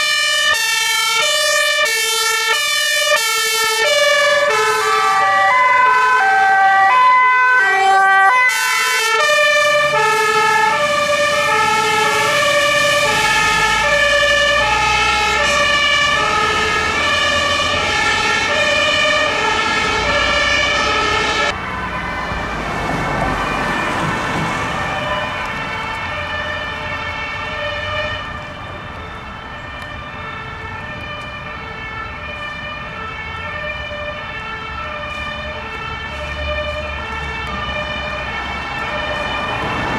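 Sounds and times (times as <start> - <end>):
fire engine two-tone sirens: 0.0 - 39.9
engine rumble: 3.8 - 39.9.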